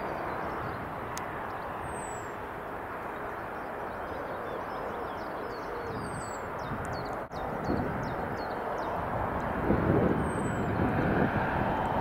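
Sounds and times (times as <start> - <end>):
distant jet engines rushing: 0.0 - 12.0
wind buffeting microphone: 0.0 - 12.0.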